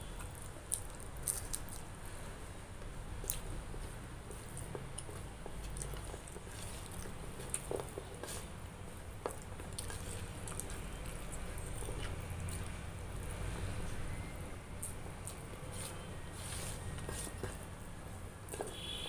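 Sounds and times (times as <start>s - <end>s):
chewing: 0.1s - 1.9s, 3.2s - 8.5s, 9.2s - 17.7s.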